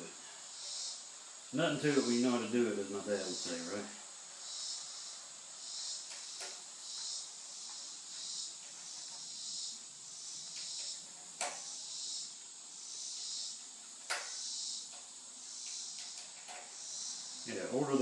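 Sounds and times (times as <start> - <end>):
high pulsing hiss: 0.0 - 18.0.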